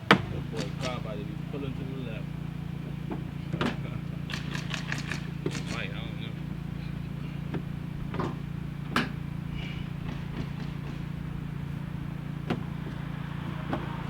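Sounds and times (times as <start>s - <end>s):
knocks and clicks of car bumper: 0.0s - 14.0s
steady low hum: 0.0s - 14.0s.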